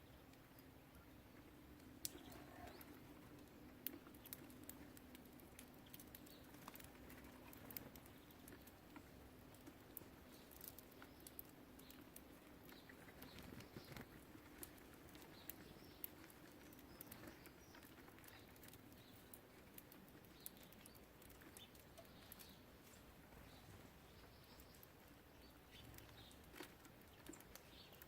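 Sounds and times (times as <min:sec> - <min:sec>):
birds pecking and hopping: 0:00.0 - 0:28.0
soft bird chirps: 0:00.0 - 0:28.0.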